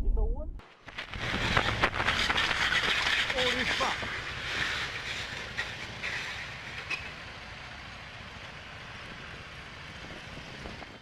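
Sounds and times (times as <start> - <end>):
car road and engine noise: 0.6 - 11.0.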